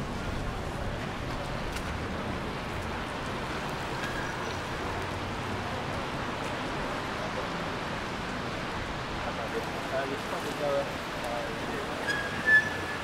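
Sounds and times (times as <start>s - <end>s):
traffic on wet streets: 0.0s - 13.0s
rain hiss: 2.0s - 13.0s.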